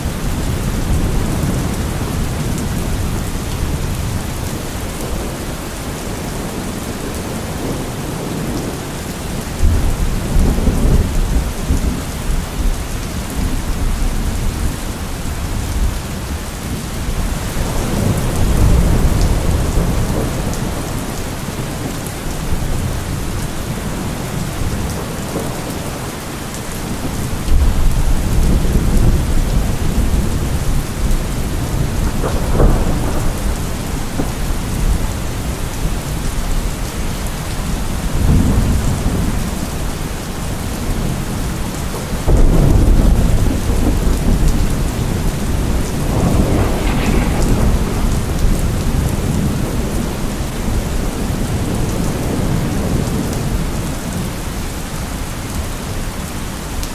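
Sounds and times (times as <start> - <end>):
thunder rumbling: 0.0 - 54.3
steady rain falling: 0.0 - 56.9.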